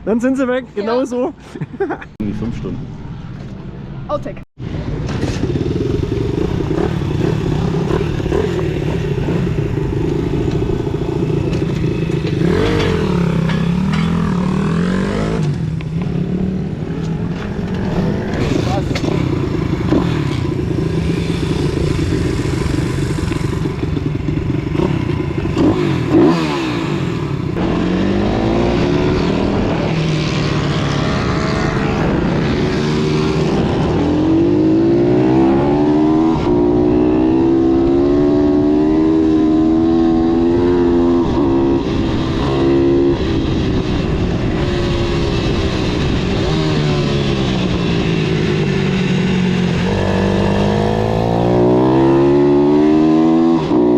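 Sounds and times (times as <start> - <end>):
pit bike engines revving: 5.0 - 53.9.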